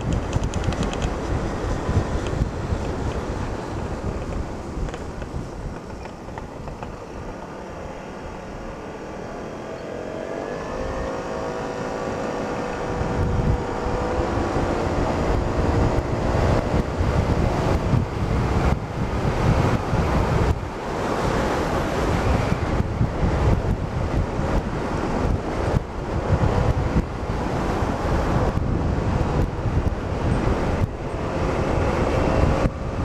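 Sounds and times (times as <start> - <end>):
road noise: 0.0 - 33.0
scooter engine hum: 0.0 - 33.0
wind buffeting microphone: 0.0 - 33.0.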